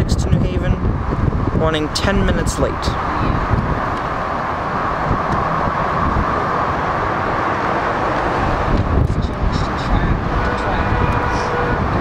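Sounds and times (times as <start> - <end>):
electric train rumble and hum: 0.0 - 12.0.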